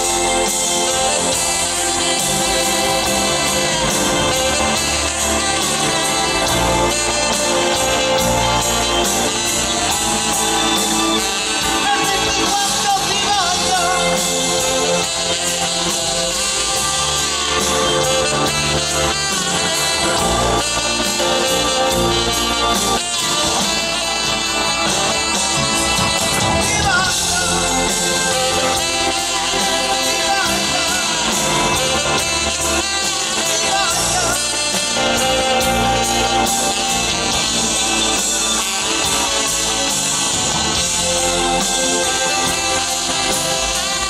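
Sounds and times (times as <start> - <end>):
live band playing: 0.0 - 44.0
saxophone solo: 0.0 - 44.0.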